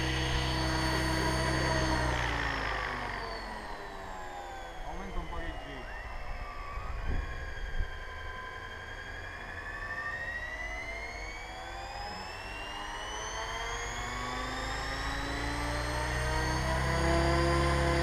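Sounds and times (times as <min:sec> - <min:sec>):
model helicopter motor whine: 0:00.0 - 0:18.0.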